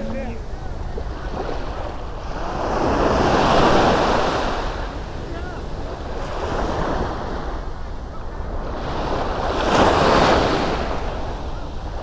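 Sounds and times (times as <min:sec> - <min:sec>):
sea waves washing onto shore: 0:00.0 - 0:12.0
wind rumbling on microphone: 0:00.0 - 0:12.0.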